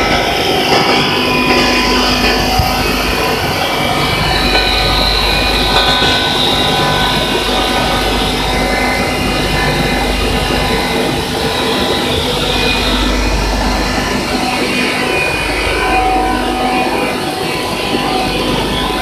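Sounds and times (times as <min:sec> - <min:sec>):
machine drone with high hiss: 0:00.0 - 0:19.0.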